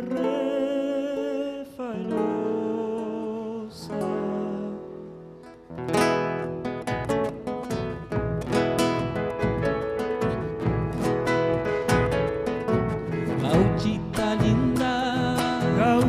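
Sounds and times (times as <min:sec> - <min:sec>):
acoustic guitar strumming chords: 0:00.0 - 0:16.0
folk music with held notes: 0:00.0 - 0:16.0.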